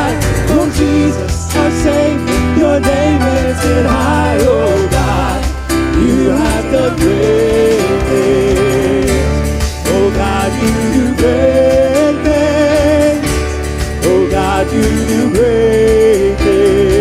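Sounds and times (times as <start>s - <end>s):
steady bass: 0.0s - 17.0s.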